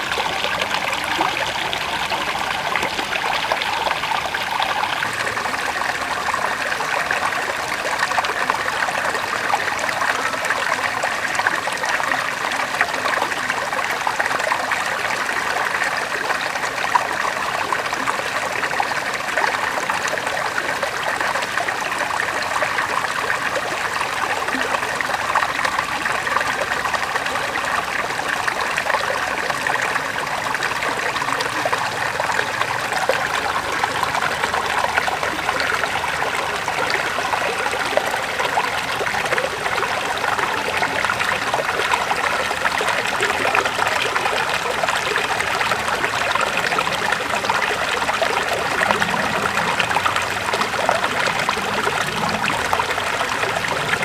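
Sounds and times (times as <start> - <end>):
river water babbling over stones: 0.0 - 54.0.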